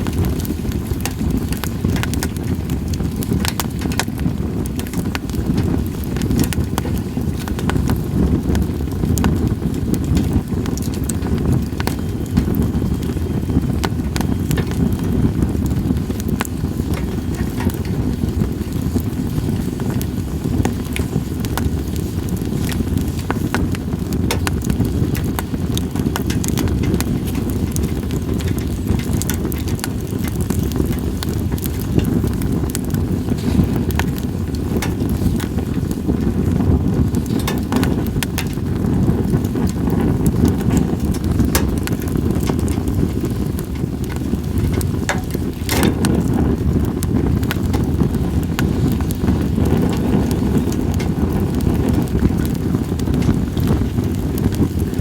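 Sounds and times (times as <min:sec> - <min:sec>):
campfire crackling and popping: 0:00.0 - 0:55.0
wind rumble on microphone: 0:00.0 - 0:55.0.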